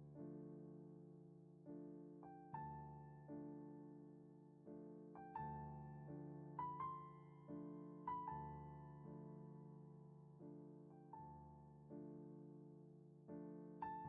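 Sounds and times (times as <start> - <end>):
slow quiet piano music: 0.0 - 14.0.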